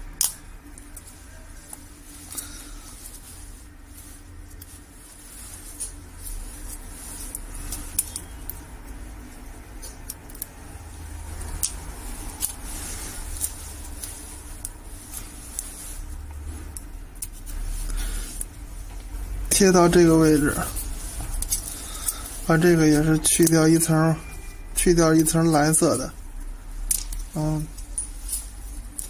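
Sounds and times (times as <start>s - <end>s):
plastic film rustling: 0.0s - 29.0s.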